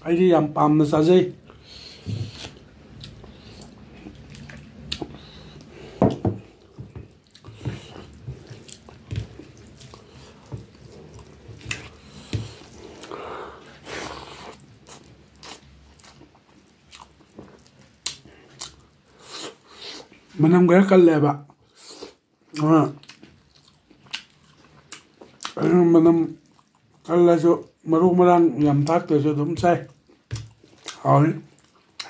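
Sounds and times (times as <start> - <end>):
man chewing food: 1.4 - 20.4, 21.5 - 27.8, 29.6 - 32.0.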